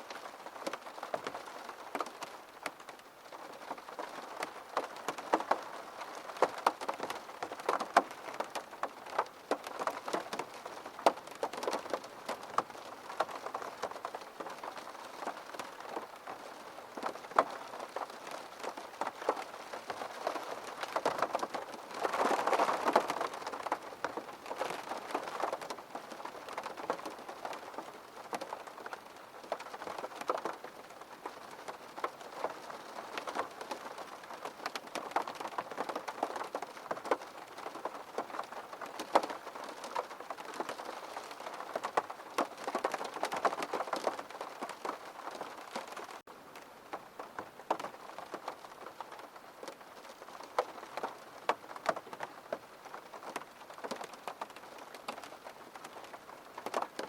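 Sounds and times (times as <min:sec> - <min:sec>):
rain pattering on a window: 0:00.0 - 0:57.0.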